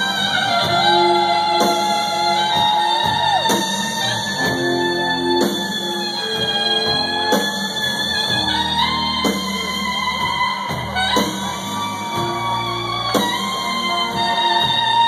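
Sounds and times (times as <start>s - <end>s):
guitar: 0.0s - 15.0s
saxophone holding long notes: 0.0s - 15.0s.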